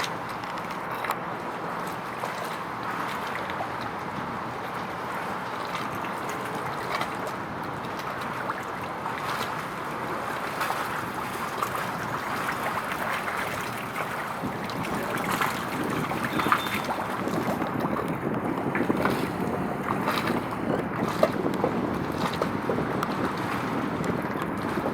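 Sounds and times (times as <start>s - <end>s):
water noise: 0.0s - 24.9s
wind: 0.0s - 24.9s.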